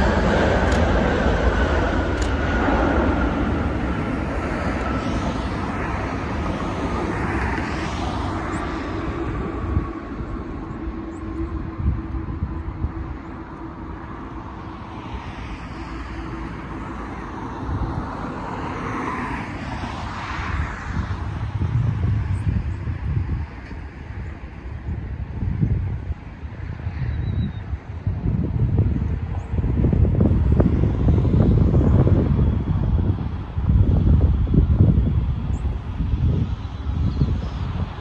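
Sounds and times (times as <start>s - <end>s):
jet engines rumbling and whining: 0.0s - 38.0s.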